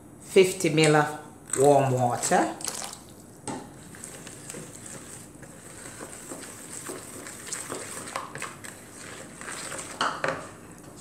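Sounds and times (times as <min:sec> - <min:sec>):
spoon stirring wet batter: 0:00.6 - 0:11.0.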